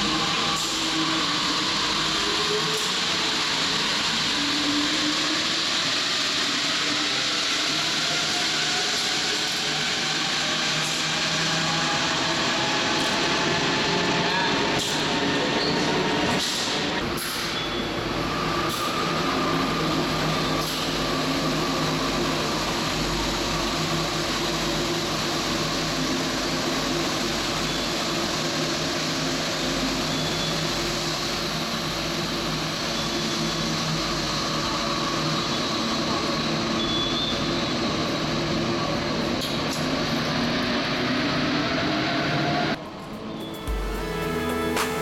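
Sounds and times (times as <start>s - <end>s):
train hum and rumble: 0.0s - 45.0s.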